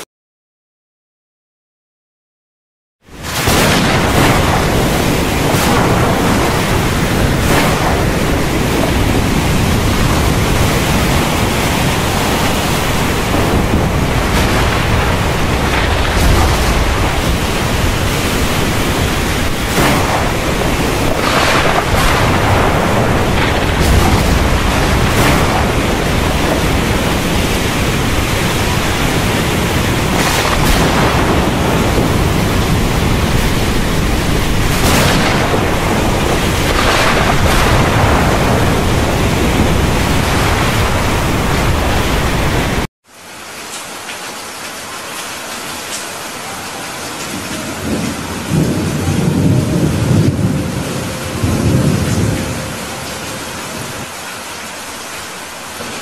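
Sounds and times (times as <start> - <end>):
loud wind: 3.0 - 42.9, 46.4 - 56.0
heavy rain: 3.0 - 56.0
waves: 3.1 - 56.0.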